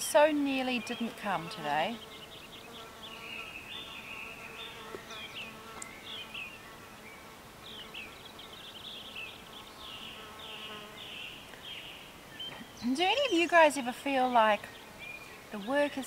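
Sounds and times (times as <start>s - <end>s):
flies buzzing: 0.1s - 13.7s.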